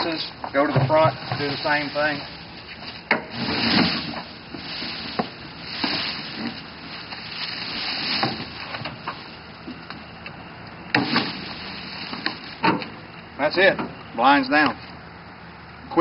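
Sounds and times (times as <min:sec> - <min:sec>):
dry grass rustling: 0:00.0 - 0:13.6.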